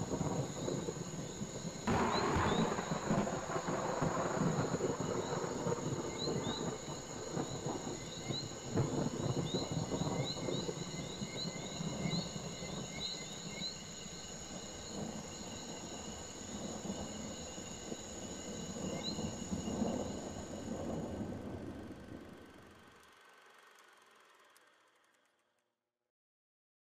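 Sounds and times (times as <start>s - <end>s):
insects buzzing: 0.0s - 24.8s.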